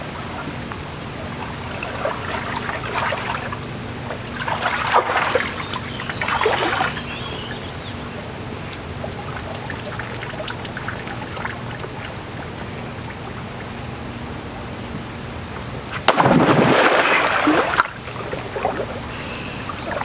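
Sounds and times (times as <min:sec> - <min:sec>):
flowing river water trickling: 0:00.0 - 0:20.0
water splashing and sloshing: 0:00.0 - 0:20.0.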